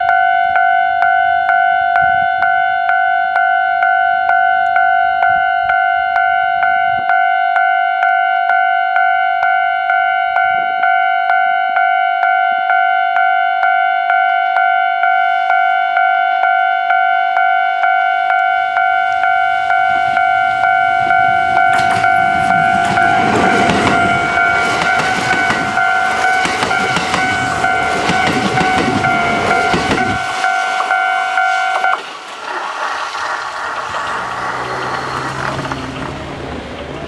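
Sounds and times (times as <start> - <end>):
electronic crossing bell dinging: 0.0 - 32.0.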